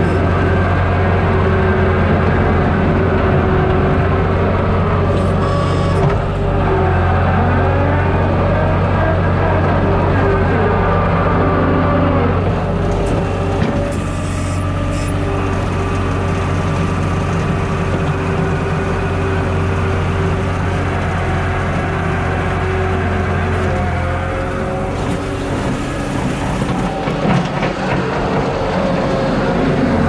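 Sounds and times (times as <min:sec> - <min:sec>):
loader diesel engine running: 0:00.0 - 0:30.0.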